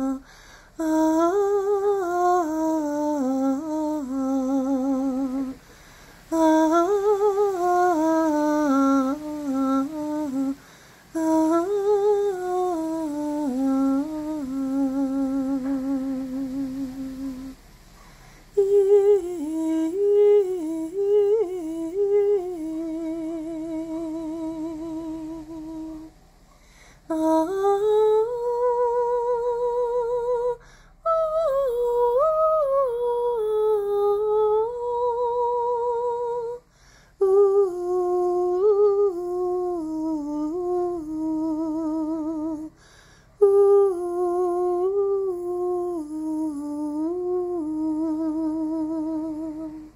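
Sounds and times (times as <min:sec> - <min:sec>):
person humming a melody: 0:00.0 - 0:17.6, 0:18.5 - 0:26.1, 0:27.1 - 0:42.8, 0:43.4 - 0:49.9.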